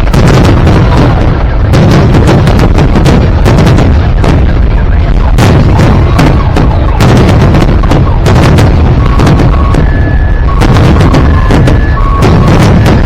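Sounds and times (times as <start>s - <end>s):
deep rumble: 0.0s - 13.0s.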